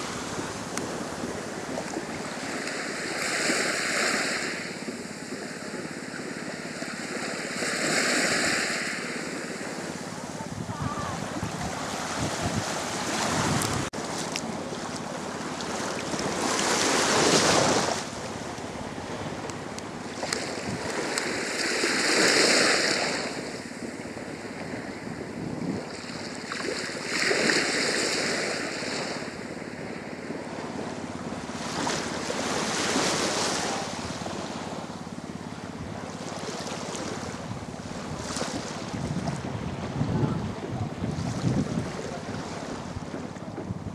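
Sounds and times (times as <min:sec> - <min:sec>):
small waves washing: 0:00.0 - 0:43.9
wind gusts on microphone: 0:00.0 - 0:43.9.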